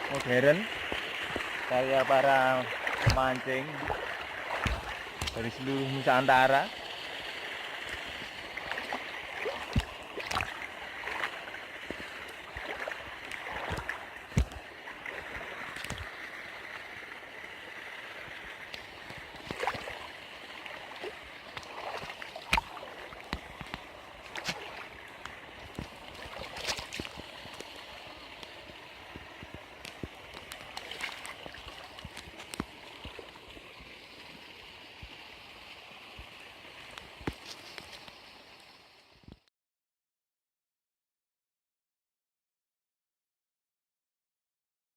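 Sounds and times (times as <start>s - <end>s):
water rushing: 0.0s - 39.2s
water splashing and dripping: 0.0s - 39.4s.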